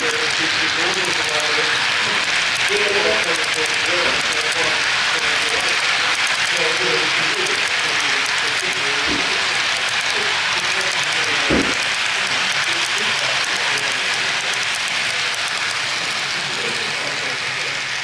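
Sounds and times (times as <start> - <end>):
model train wheels ticking on rails: 0.0 - 18.0.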